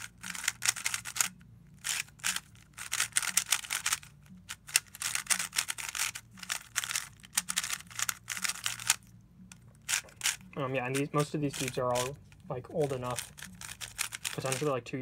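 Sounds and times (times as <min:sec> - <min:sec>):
puzzle cube clicking turns: 0:00.0 - 0:14.7.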